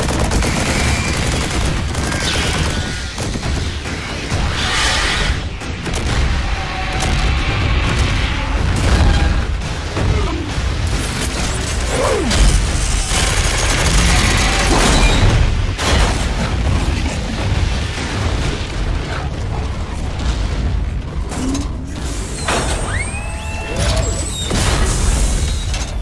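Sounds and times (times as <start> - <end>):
booms: 0.0 - 26.0
deep continuous rumble: 0.0 - 26.0.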